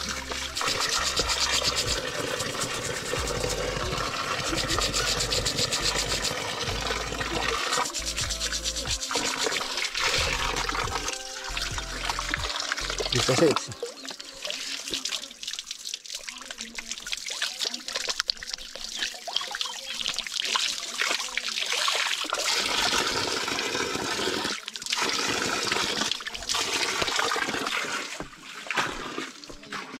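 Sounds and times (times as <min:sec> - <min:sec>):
water running and splashing: 0:00.0 - 0:30.0.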